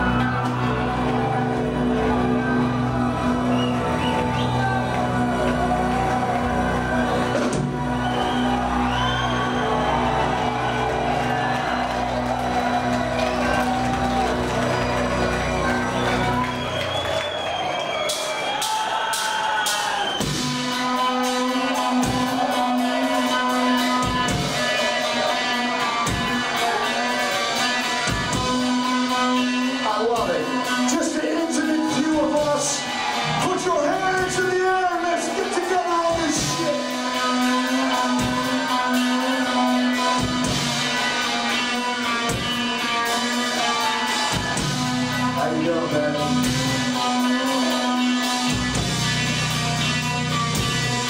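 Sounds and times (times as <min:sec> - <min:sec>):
metal band playing live: 0:00.0 - 0:17.0, 0:17.9 - 0:51.0.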